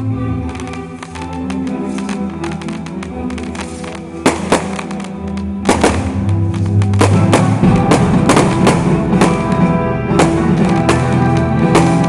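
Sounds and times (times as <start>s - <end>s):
firework bangs and crackles: 0.0s - 12.0s
orchestral music: 0.0s - 12.0s.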